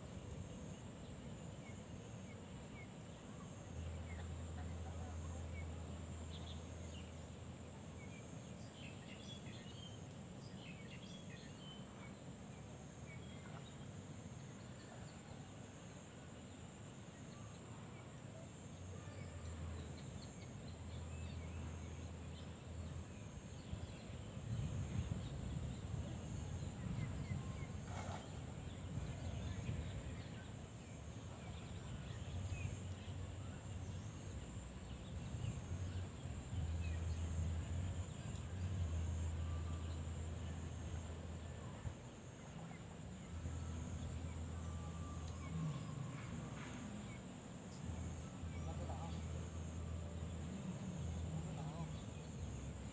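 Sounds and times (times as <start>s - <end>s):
insect drone: 0.0s - 52.9s.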